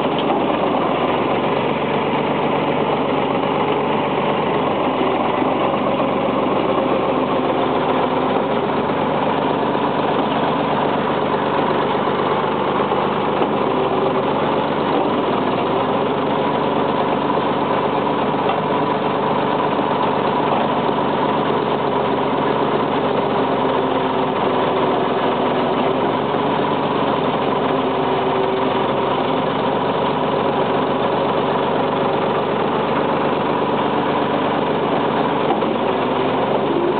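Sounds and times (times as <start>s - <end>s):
backhoe engine running: 0.0s - 36.9s.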